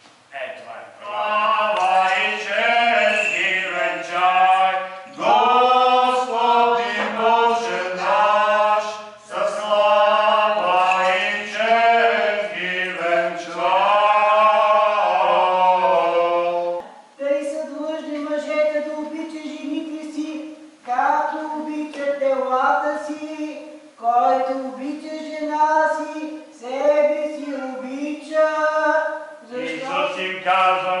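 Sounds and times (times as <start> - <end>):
voices chanting liturgy: 0.8 - 22.0, 22.9 - 31.0.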